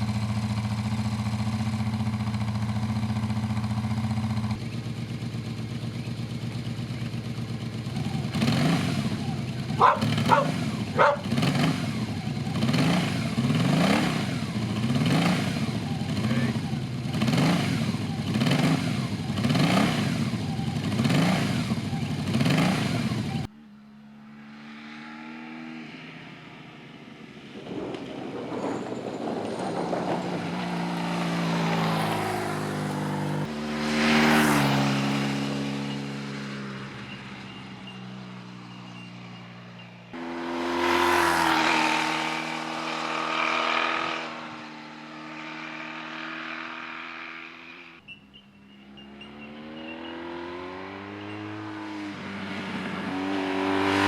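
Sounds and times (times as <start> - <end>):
motorcycle accelerating through gears: 0.0 - 54.0
motorcycle engine revving: 0.0 - 54.0.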